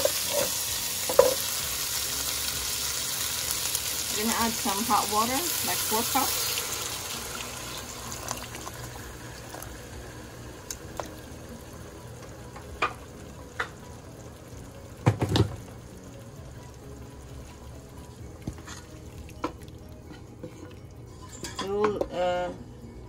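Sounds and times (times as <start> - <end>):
hot water pouring into pot: 0.0 - 21.3.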